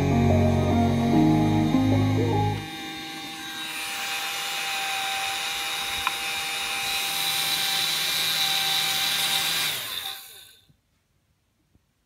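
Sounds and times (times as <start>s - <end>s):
electric cooling fan whirring: 0.0s - 10.5s.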